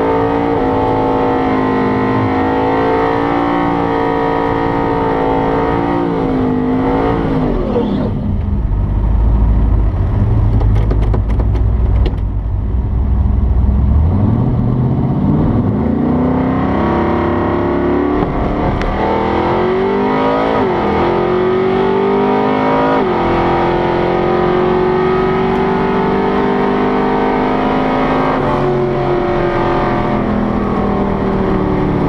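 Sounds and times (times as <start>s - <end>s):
drag car engine at full throttle: 0.0s - 32.0s.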